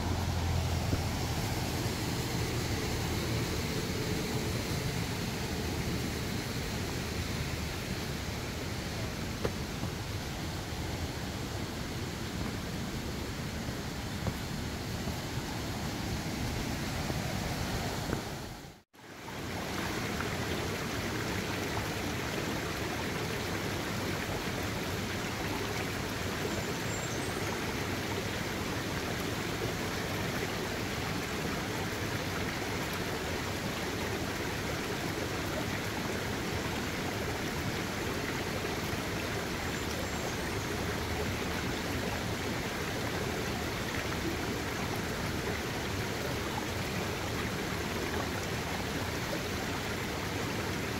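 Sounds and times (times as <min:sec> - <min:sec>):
stream flowing over rocks: 0:00.0 - 0:50.9.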